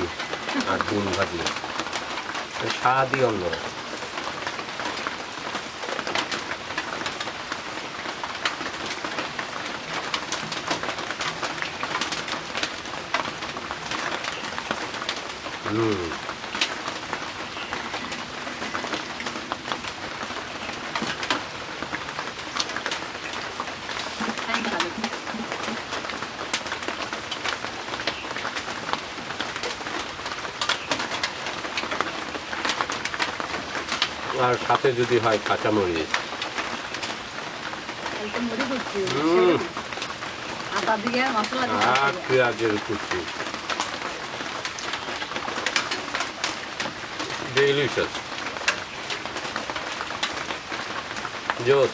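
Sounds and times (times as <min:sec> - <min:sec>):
heavy rain on a roof: 0:00.0 - 0:51.9.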